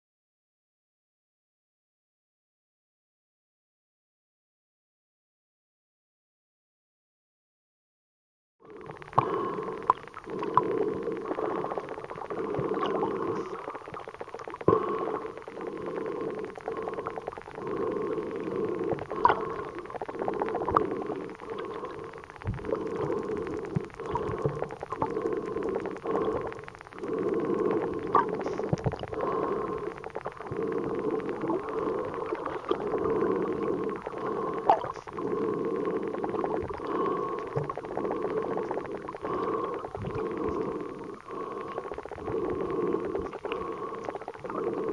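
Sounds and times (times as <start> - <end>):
muffled underwater water rush: 8.6 - 44.9.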